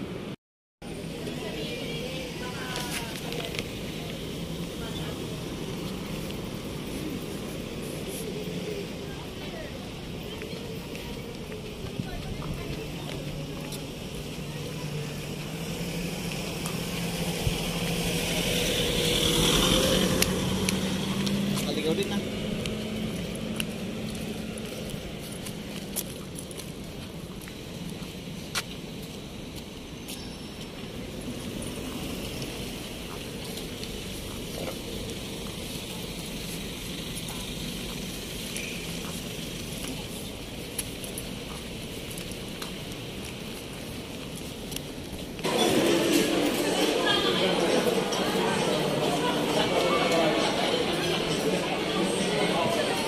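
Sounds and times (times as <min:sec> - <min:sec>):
vehicle engine hum: 0:00.0 - 0:30.0, 0:30.6 - 0:53.0
low street rumble: 0:00.0 - 0:53.0.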